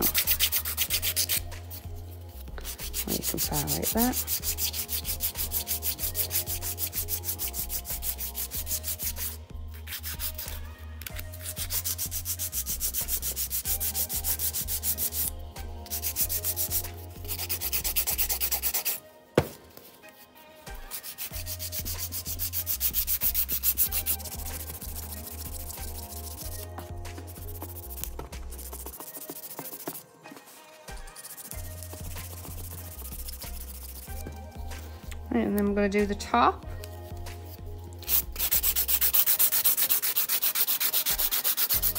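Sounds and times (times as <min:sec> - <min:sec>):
nail file scraping: 0:00.0 - 0:19.0, 0:20.1 - 0:35.7, 0:36.8 - 0:41.9.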